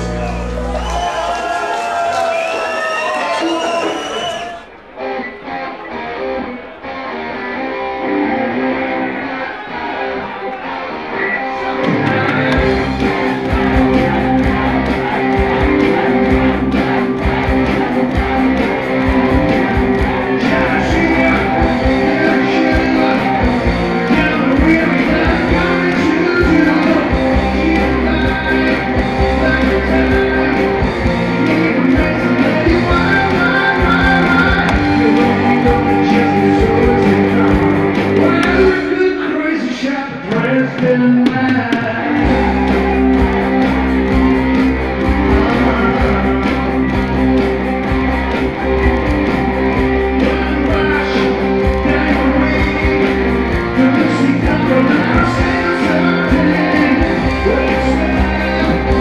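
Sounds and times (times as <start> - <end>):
bass: 0.0 - 4.6, 11.2 - 59.0
drums: 0.0 - 59.0
electric guitar: 0.0 - 59.0.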